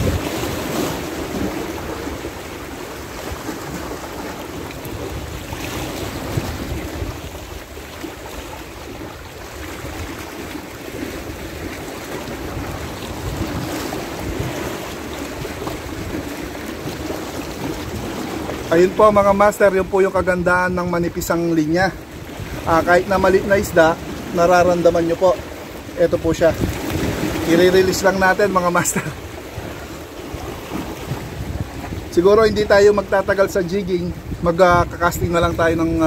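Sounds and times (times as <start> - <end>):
waves washing against rocks: 0.0 - 36.0
wind buffeting microphone: 0.0 - 36.0.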